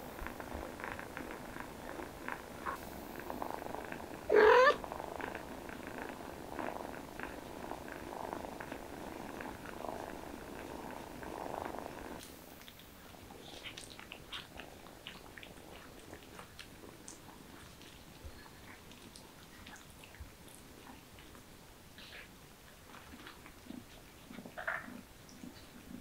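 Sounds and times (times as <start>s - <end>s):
cat purring: 0.0s - 26.0s
kittens suckling: 0.1s - 26.0s.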